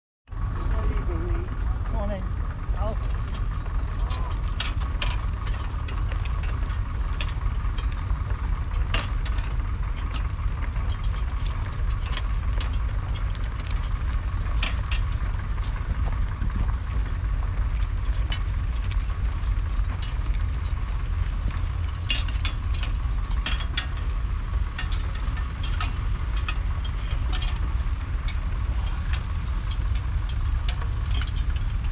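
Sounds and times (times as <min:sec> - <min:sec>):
low rumble: 0:00.3 - 0:31.9
chains and harness clinking: 0:00.7 - 0:31.9
plough rattling clicks: 0:02.5 - 0:31.9.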